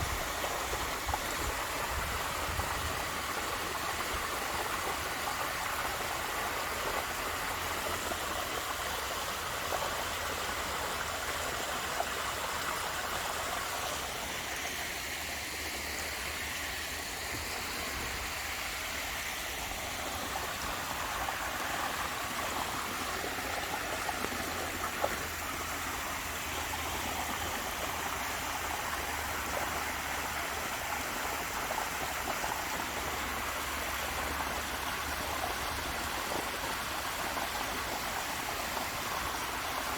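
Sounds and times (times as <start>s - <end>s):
water rushing from small waterfall: 0.0s - 39.9s.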